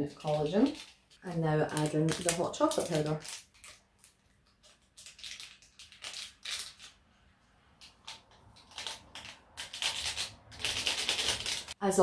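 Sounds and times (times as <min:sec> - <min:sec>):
powder sachet crinkling: 0:00.0 - 0:07.2, 0:07.8 - 0:11.8.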